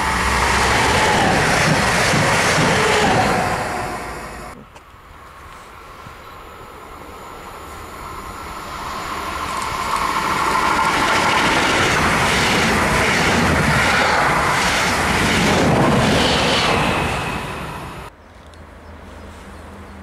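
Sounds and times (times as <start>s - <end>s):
train passing with rhythmic wheels: 0.0s - 20.0s.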